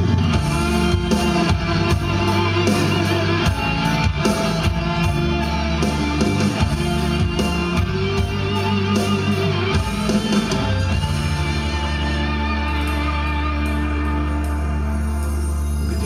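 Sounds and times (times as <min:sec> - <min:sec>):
steady beat: 0:00.0 - 0:13.0
sustained low bass notes: 0:00.0 - 0:16.0.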